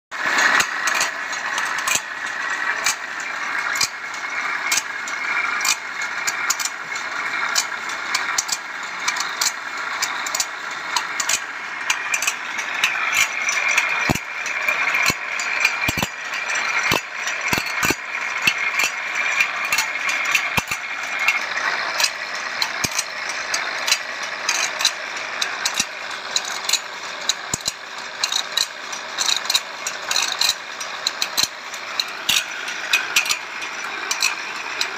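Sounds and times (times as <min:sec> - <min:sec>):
grinding machine noise: 0:00.1 - 0:34.9.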